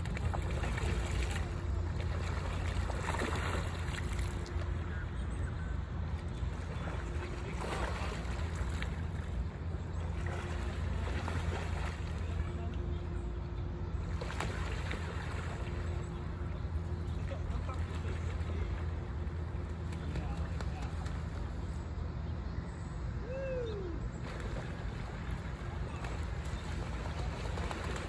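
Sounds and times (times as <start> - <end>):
geese splashing in water: 0.0 - 5.2, 6.1 - 13.3, 13.9 - 21.7, 24.2 - 28.0.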